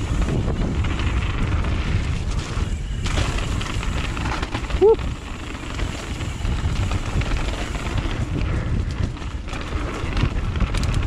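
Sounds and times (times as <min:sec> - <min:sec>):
bike rolling rattle: 0:00.0 - 0:11.0
wind buffeting microphone: 0:00.0 - 0:11.0.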